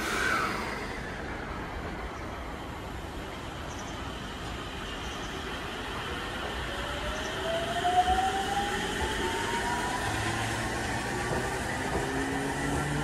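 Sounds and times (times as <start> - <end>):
train cars rumbling on rails: 0.0 - 13.0.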